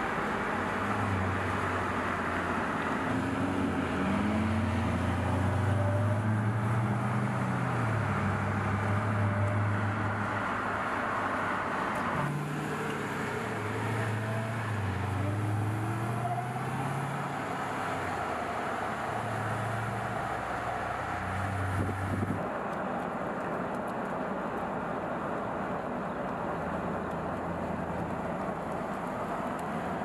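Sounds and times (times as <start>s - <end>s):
car engine cruising: 0.0s - 30.0s
road noise: 0.0s - 30.0s.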